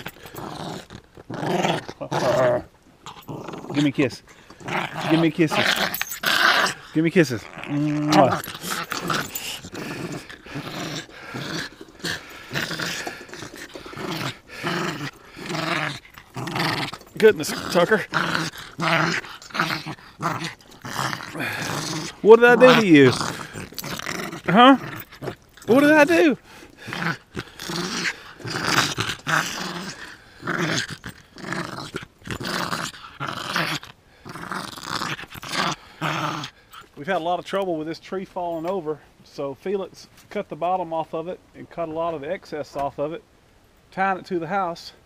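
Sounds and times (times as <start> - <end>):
small dog growling: 0.0 - 37.0.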